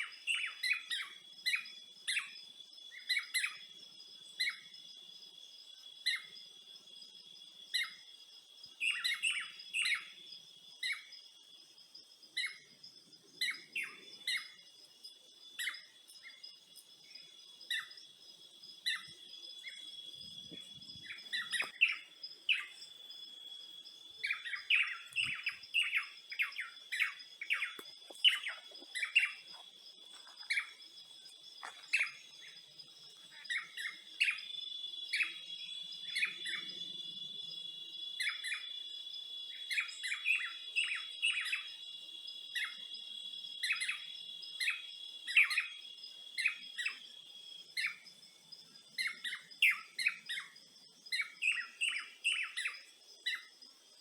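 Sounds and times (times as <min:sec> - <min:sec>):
birds chirping: 0:00.0 - 0:04.7, 0:12.3 - 0:47.1, 0:48.8 - 0:53.5
high-pitched insect hum: 0:00.0 - 0:54.0.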